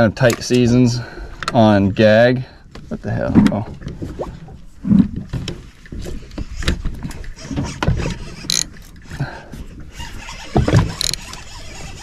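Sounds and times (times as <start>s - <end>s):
knocks and clunks aboard boat: 1.4s - 12.0s.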